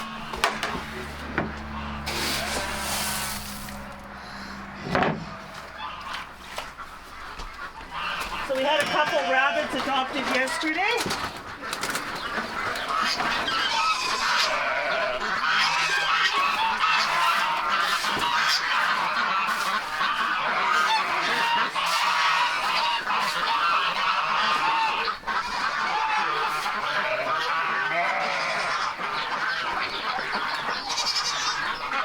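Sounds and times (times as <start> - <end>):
poultry calling: 0.0 - 32.0.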